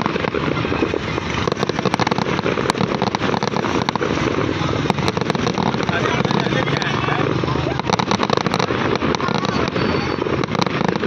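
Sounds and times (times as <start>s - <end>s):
fireworks pops and cracks: 0.0s - 11.0s
noisy rumble: 0.0s - 11.0s.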